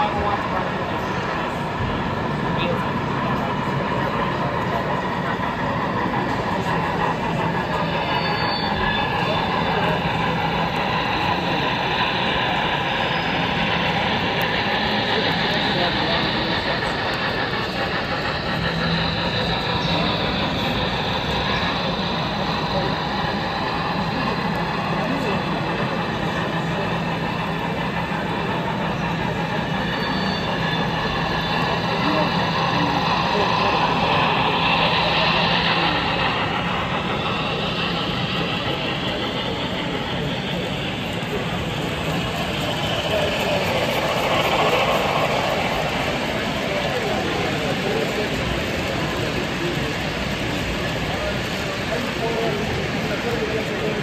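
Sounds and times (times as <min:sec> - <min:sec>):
model train rolling rumble: 0:00.0 - 0:54.0.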